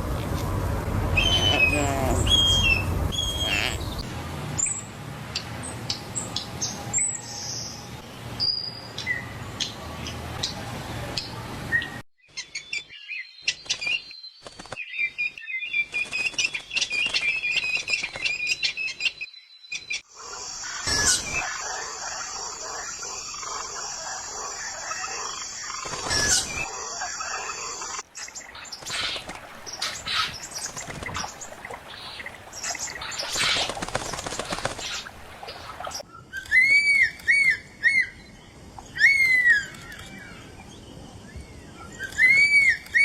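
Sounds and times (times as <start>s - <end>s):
birds chirping: 1.1s - 4.8s, 5.4s - 43.0s.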